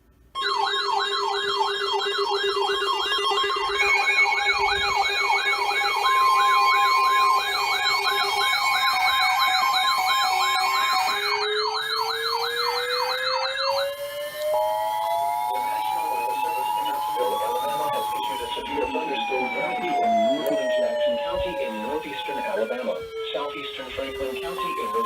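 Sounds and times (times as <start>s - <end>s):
electronic sirens warbling: 0.4s - 25.0s.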